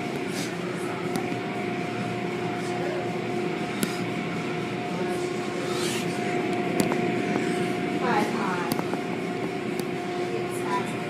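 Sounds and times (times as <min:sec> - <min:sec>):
car wash machinery humming: 0:00.0 - 0:11.0
constant whine: 0:00.0 - 0:11.0.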